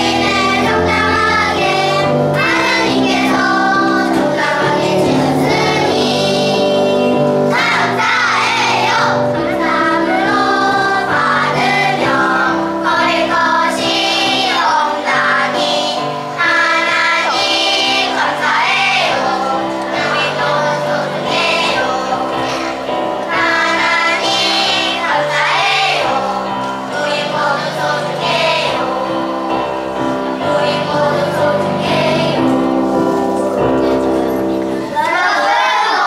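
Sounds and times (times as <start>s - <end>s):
children singing together: 0.0s - 36.0s.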